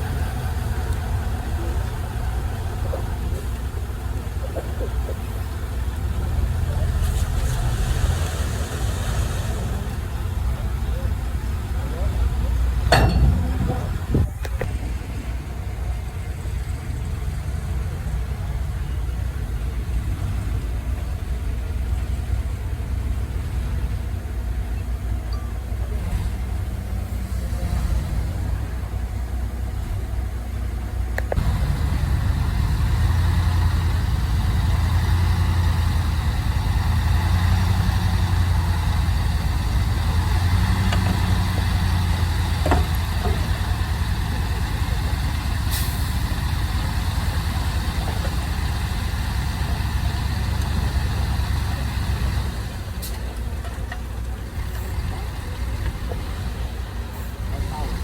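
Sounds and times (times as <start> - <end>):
heavy vehicle engine running: 0.0 - 58.0.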